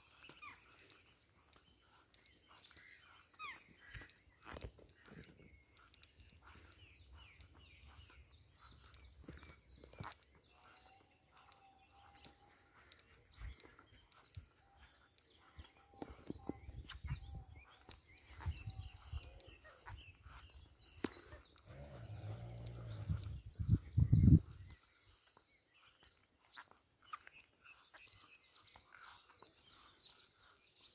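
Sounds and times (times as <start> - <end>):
footsteps on grass: 0.0 - 30.9
songbirds chirping: 0.0 - 30.9.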